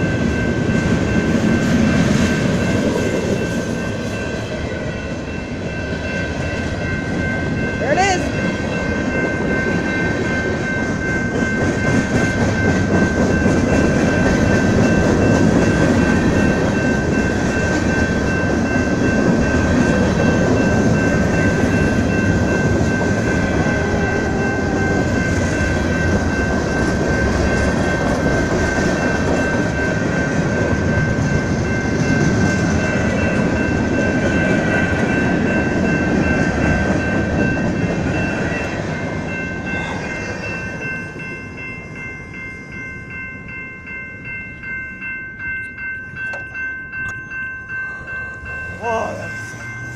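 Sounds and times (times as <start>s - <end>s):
freight train wheels rumbling: 0.0s - 49.9s
high ringing tone: 0.0s - 49.9s.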